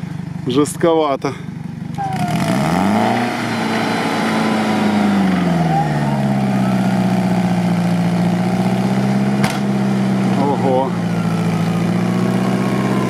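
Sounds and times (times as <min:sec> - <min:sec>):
vehicle engine revving: 0:01.2 - 0:13.0.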